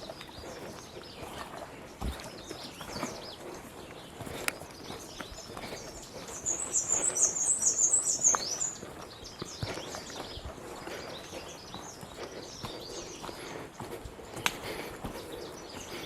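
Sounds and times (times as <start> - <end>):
footsteps on trail: 0.0 - 16.0
songbird chirping: 0.0 - 16.0.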